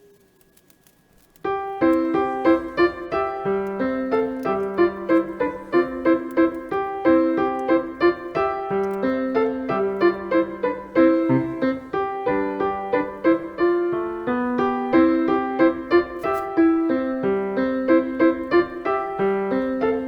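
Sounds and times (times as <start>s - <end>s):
solo piano music: 1.4s - 20.0s.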